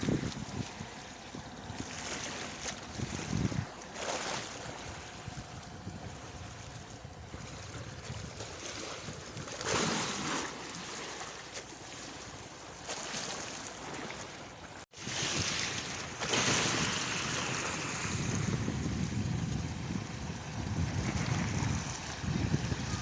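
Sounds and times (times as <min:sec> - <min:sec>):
wind buffeting microphone: 0:00.0 - 0:11.4, 0:14.9 - 0:23.0
waves washing on beach: 0:00.0 - 0:23.0.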